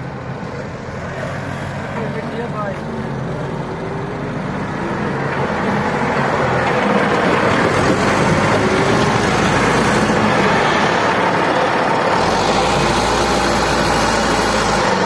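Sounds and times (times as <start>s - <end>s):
diesel engine running: 1.9s - 15.0s.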